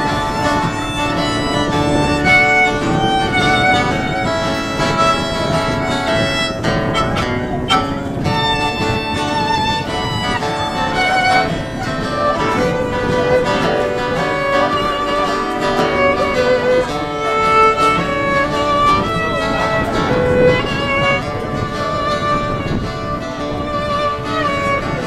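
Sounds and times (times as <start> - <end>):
fiddle melody: 0.0 - 25.0
strummed acoustic guitar: 0.0 - 25.0.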